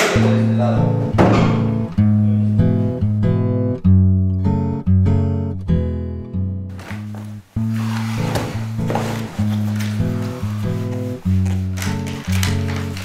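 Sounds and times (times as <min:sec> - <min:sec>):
acoustic guitar plucked notes: 0:00.0 - 0:12.5.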